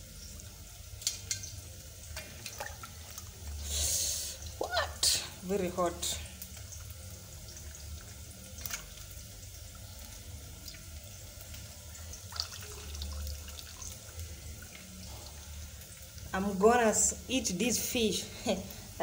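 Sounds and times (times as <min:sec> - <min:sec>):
low steady hum: 0:00.0 - 0:19.0
water sloshing and dripping: 0:00.4 - 0:03.6, 0:04.2 - 0:16.4.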